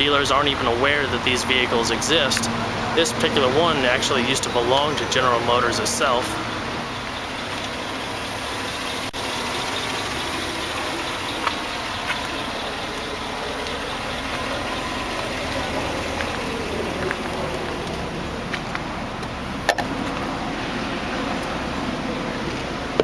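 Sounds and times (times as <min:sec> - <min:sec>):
rushing background noise: 0:00.0 - 0:23.0.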